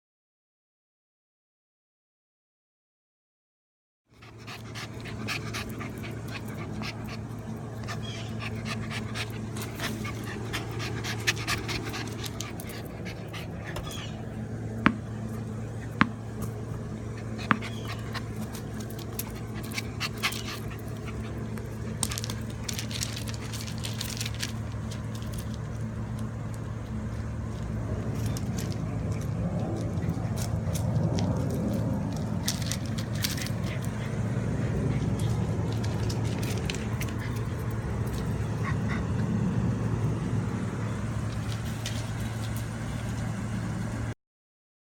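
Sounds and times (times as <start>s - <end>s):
steady low hum: 4.1s - 44.2s
puppies panting: 4.2s - 43.3s.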